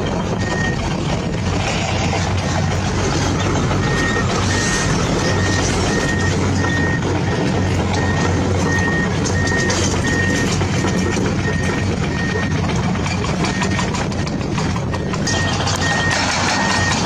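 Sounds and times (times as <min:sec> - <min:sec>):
reversing beeper: 0:00.0 - 0:01.4, 0:02.0 - 0:14.4, 0:15.0 - 0:17.0
engine rumble: 0:00.0 - 0:17.0.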